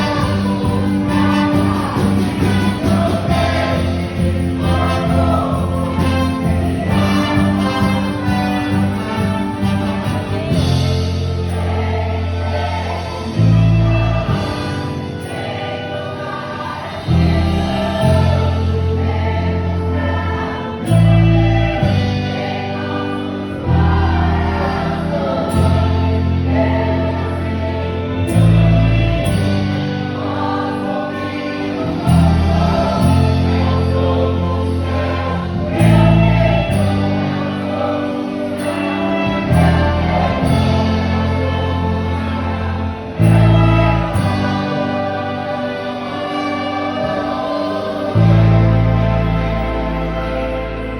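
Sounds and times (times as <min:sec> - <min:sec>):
choir singing gospel music: 0:00.0 - 0:50.9
instrumental accompaniment: 0:00.0 - 0:50.9
sustained bass notes: 0:00.0 - 0:50.9.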